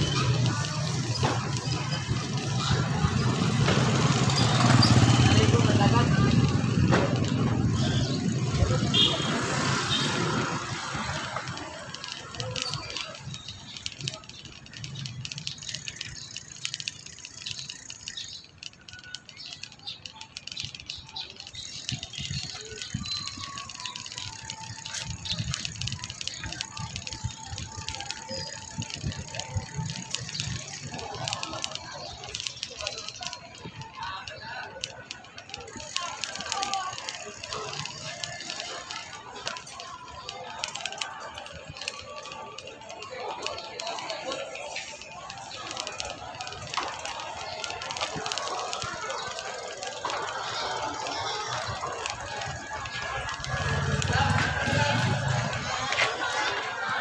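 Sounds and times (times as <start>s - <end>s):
bike rattling and clicking: 0.0s - 57.0s
bike tyres rumbling on concrete: 0.0s - 57.0s.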